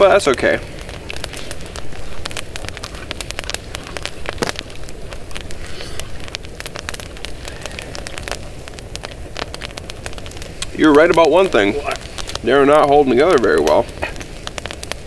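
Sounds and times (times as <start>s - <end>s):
campfire crackling and popping: 0.0s - 15.0s
steady hiss: 0.0s - 15.0s.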